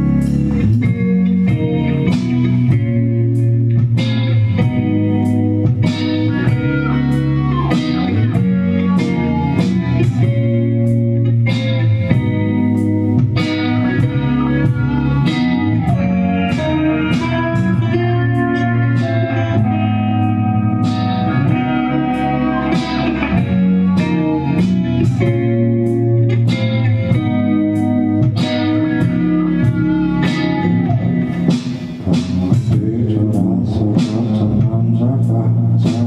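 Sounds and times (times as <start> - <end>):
electric guitar: 0.0 - 36.0
rock band playing live: 0.0 - 36.0
steady drum beat: 0.0 - 36.0.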